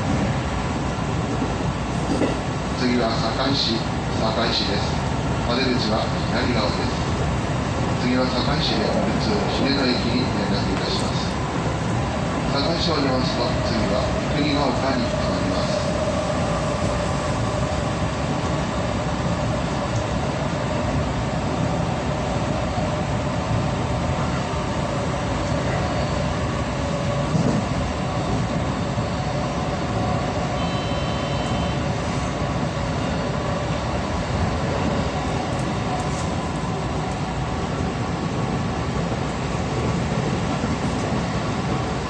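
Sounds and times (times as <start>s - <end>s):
steady train hum: 0.0s - 42.0s
train wheels rumbling on rail: 0.0s - 42.0s.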